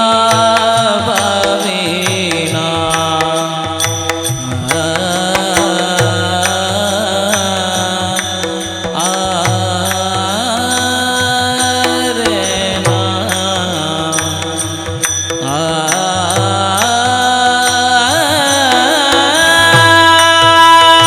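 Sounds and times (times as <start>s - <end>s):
drum strokes: 0.0s - 21.0s
person singing long gliding notes: 0.0s - 21.0s
ringing cymbals: 0.0s - 21.0s.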